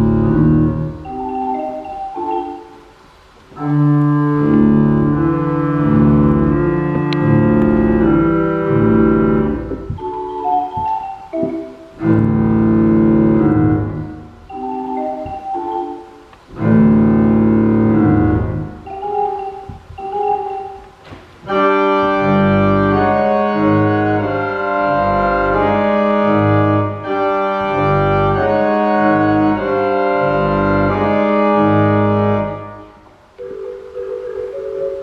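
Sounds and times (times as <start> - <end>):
organ chords over deep bass: 0.0 - 2.5, 3.6 - 15.9, 16.5 - 20.9, 21.5 - 34.8.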